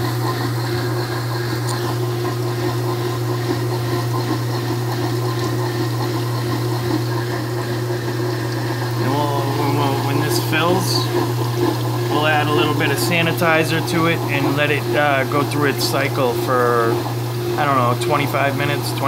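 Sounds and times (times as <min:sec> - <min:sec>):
ice machine humming: 0:00.0 - 0:19.0
running water: 0:00.0 - 0:19.0.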